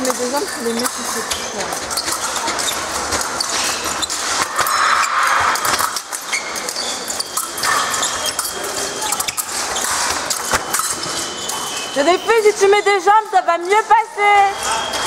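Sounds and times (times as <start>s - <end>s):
sports hall background noise: 0.0s - 15.0s.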